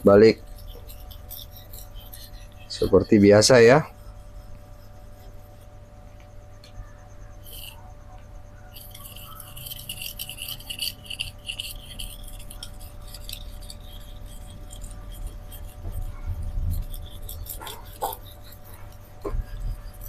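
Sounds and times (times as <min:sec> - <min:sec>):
knife scraping on whetstone: 0:00.0 - 0:05.7, 0:07.4 - 0:07.9, 0:08.7 - 0:20.0.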